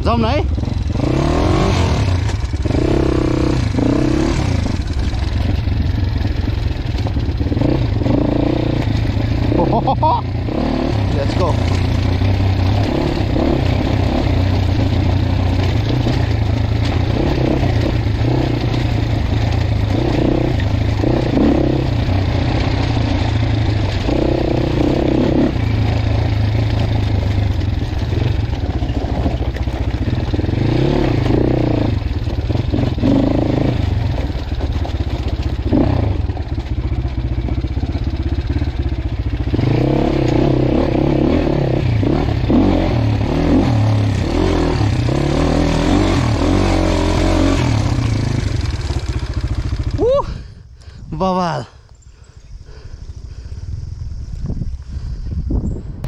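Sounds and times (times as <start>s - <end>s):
dirt bike engine revving: 0.0s - 50.2s.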